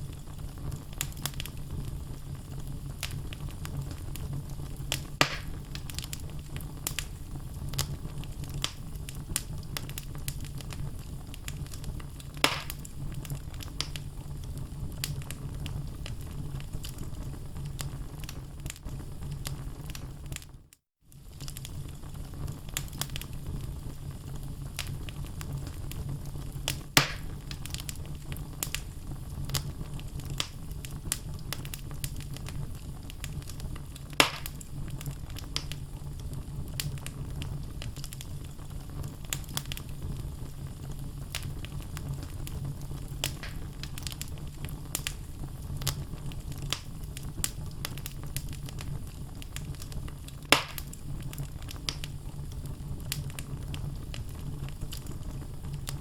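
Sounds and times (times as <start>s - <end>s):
wood logs burning and crackling: 0.0s - 56.0s.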